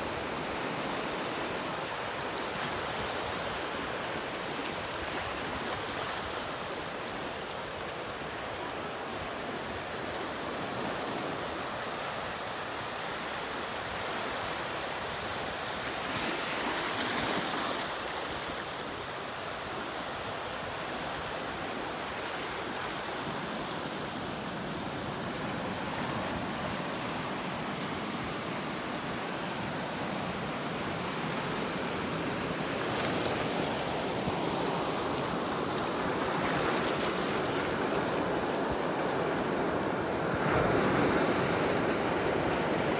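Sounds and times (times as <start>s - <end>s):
ocean surf washing over rocks: 0.0s - 42.9s.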